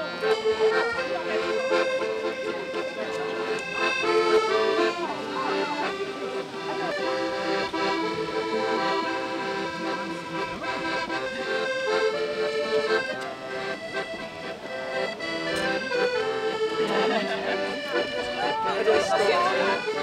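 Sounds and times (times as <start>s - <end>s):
instrumental music with held notes: 0.0s - 20.0s.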